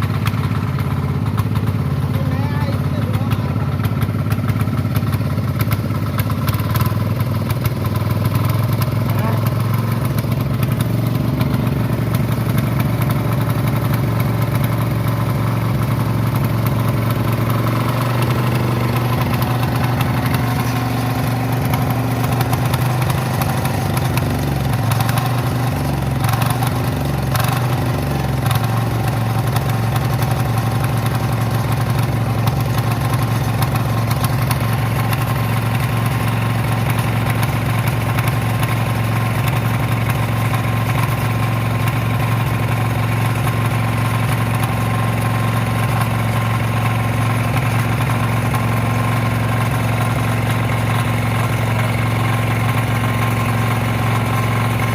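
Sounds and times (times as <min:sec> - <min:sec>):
power weeder engine idling: 0:00.0 - 0:54.9.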